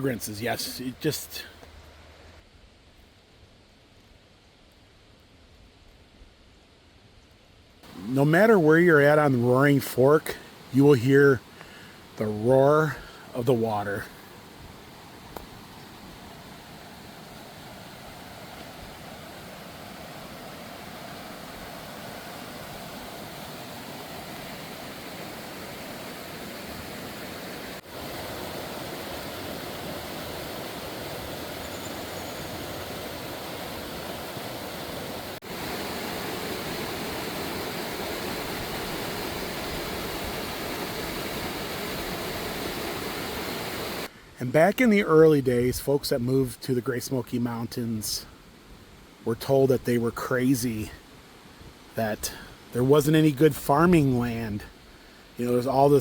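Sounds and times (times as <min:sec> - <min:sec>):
rushing mountain stream: 0:00.0 - 0:02.0, 0:07.8 - 0:44.1, 0:46.1 - 0:56.0.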